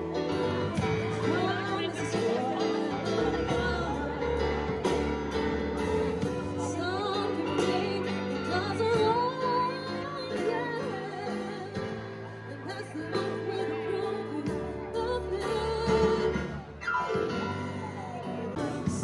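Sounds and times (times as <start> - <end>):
live band playing: 0.0 - 19.0
woman singing into a microphone: 0.0 - 19.0.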